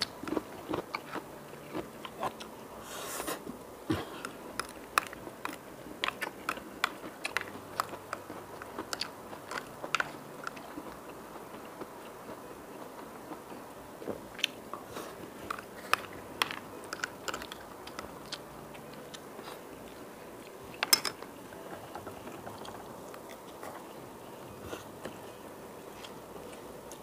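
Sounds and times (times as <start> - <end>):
chewing: 0.0 - 2.5, 4.2 - 13.6, 14.3 - 20.7, 21.8 - 25.3.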